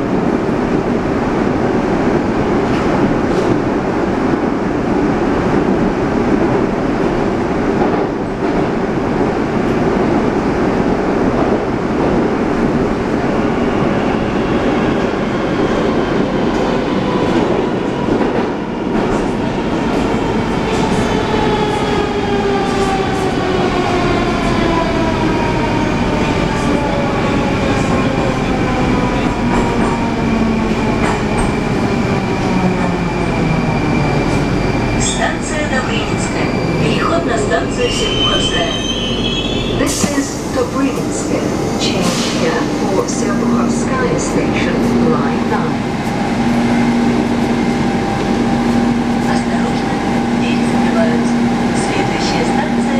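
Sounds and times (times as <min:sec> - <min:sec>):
metro train rumbling in tunnel: 0:00.0 - 0:52.9.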